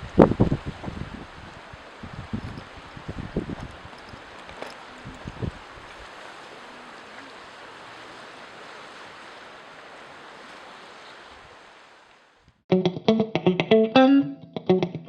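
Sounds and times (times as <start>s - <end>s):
ocean surf washing: 0.0s - 12.5s.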